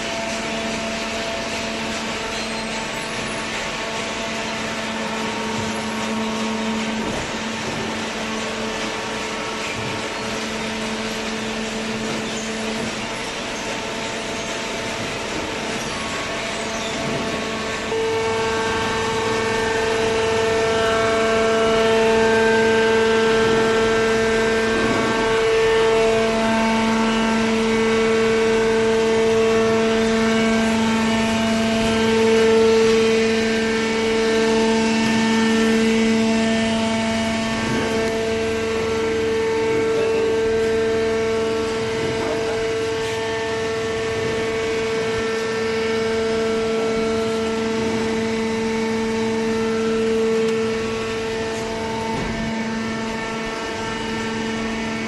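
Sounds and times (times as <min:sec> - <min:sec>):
hydraulic pump humming whine: 0:00.0 - 0:55.0.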